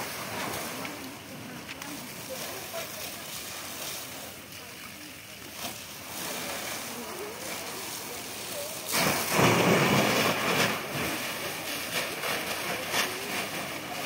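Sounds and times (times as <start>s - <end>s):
house fire crackling: 0.0s - 14.0s.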